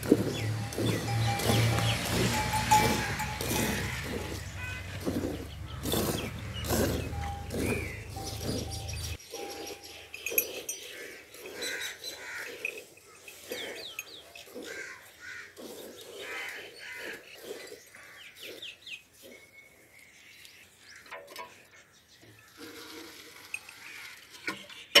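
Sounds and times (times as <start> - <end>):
birds chirping: 0.0 - 22.7.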